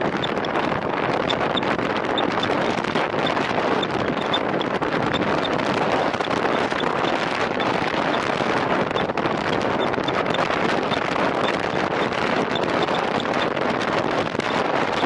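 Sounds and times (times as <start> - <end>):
wind roaring over microphone: 0.0 - 15.0.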